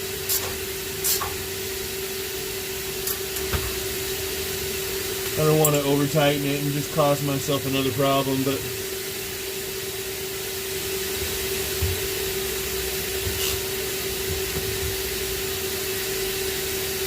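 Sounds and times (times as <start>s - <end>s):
blower motor whine and air rush: 0.0s - 17.0s.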